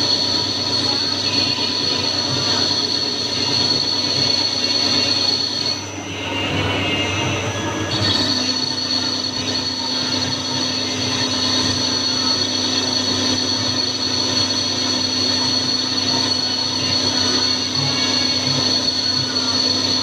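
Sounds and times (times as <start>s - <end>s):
high steady tone: 0.0s - 20.0s
lathe machine whine: 0.0s - 20.0s.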